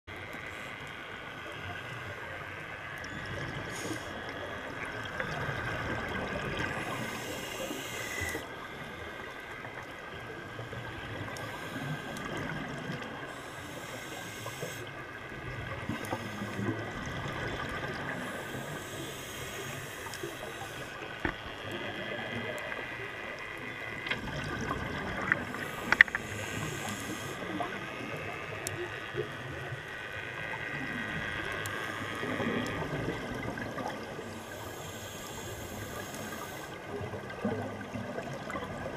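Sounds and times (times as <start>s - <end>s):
faint whine: 0.1s - 38.9s
regulator breath hiss and bubbling: 0.2s - 38.9s.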